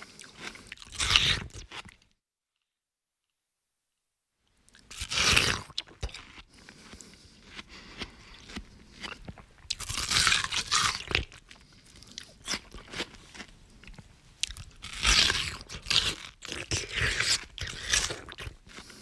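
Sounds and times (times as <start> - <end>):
person chewing watermelon: 0.0 - 2.1, 4.7 - 19.0.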